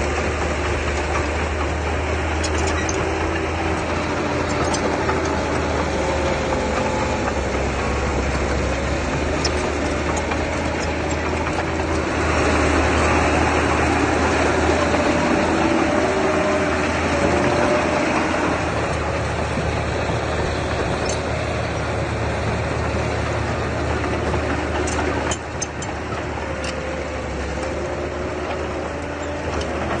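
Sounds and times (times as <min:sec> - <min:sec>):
heavy machine engine running: 0:00.0 - 0:30.0.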